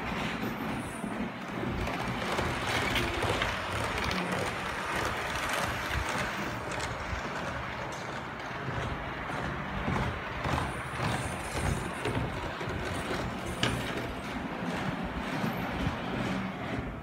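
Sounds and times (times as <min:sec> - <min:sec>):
wheels clicking on rails: 0:00.0 - 0:17.0
model train motor hum: 0:01.5 - 0:17.0.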